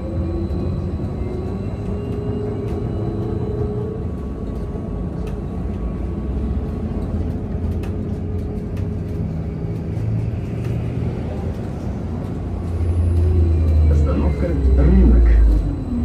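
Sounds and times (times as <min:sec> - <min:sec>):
road and running gear rumble: 0:00.0 - 0:16.0.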